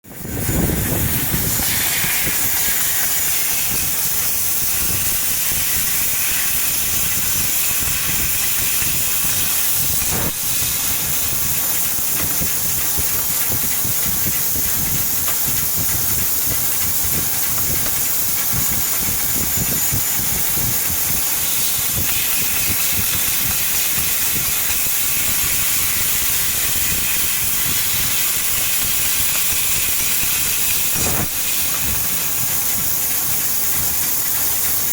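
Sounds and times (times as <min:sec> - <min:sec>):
laser cutter gas jet hissing: 0:00.2 - 0:34.9.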